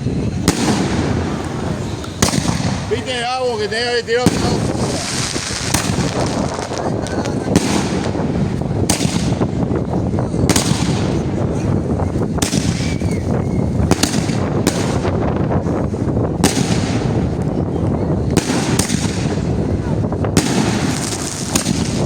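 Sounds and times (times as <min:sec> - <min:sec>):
fireworks launches and bursts: 0:00.0 - 0:22.0
sharp firework bangs: 0:00.0 - 0:22.0.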